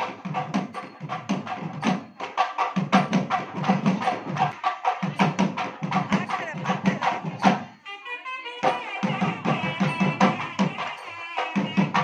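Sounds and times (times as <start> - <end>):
wedding music with barrel drum: 0.0 - 12.0.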